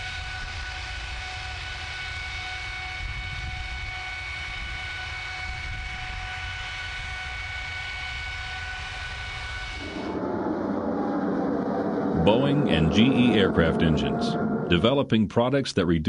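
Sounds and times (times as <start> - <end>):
jet engine roaring: 0.0 - 15.2
jet engine whine: 0.0 - 15.4.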